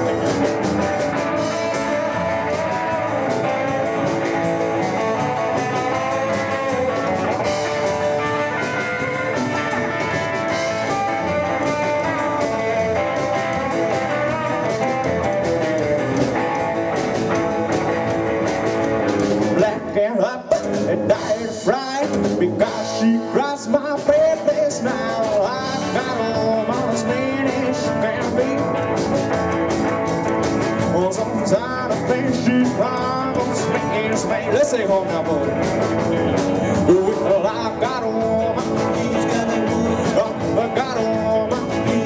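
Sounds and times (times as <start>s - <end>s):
lead electric guitar: 0.0s - 42.0s
rockabilly band playing: 0.0s - 42.0s.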